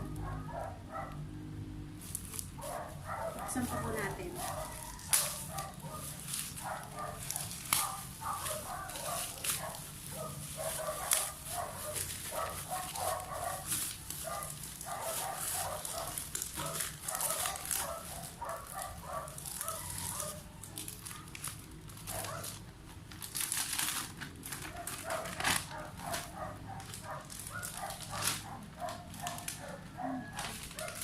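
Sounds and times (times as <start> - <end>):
small dog barking: 0.1 - 1.2, 2.6 - 21.3, 22.1 - 22.5, 24.7 - 31.0.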